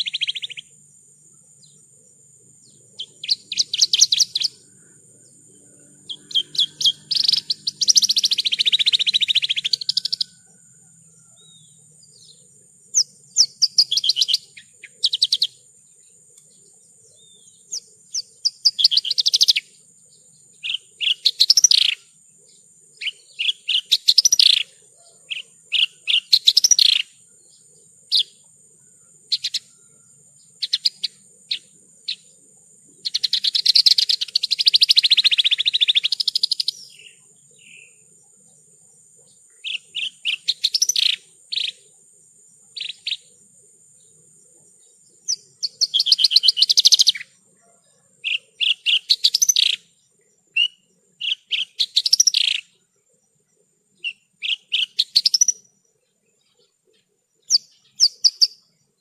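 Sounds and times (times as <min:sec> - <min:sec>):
lark singing: 0:00.0 - 0:42.0, 0:42.6 - 0:52.9, 0:53.9 - 0:59.0.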